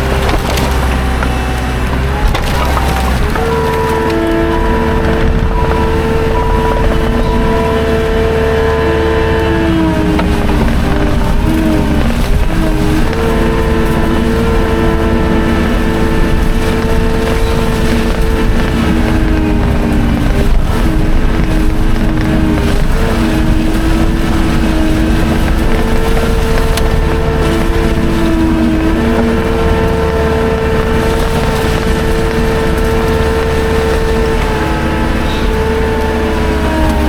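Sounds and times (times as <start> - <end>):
skid steer engine running: 0.0 - 37.0.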